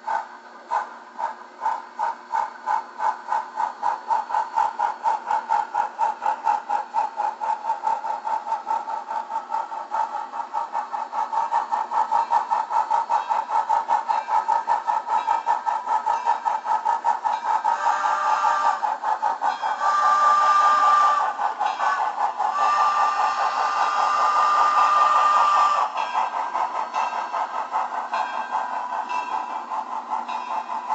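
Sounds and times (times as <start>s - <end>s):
model locomotive steam chuffs: 0.0s - 30.9s.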